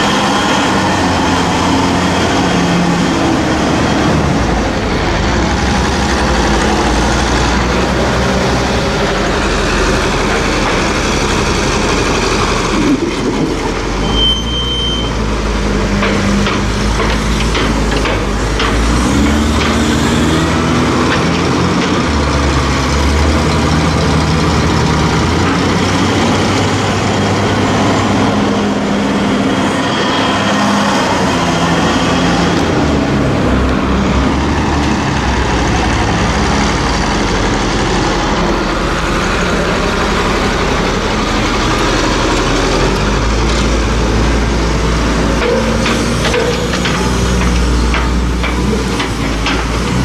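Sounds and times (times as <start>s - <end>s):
loader diesel engine under load: 0.0s - 50.0s.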